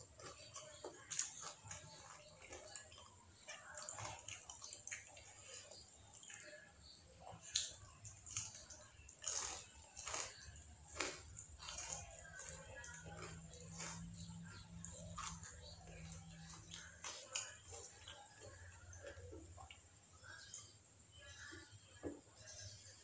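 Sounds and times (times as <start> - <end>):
chewing with wet mouth clicks: 0.0 - 20.7.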